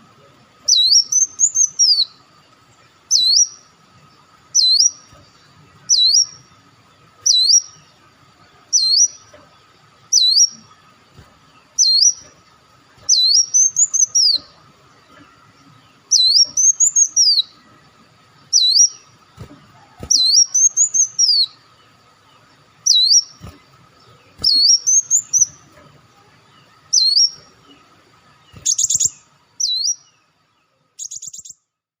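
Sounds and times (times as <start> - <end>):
buzzy bird trills: 0.0 - 31.6
sunbird calling: 0.0 - 31.7
faint steady whine: 0.0 - 32.0.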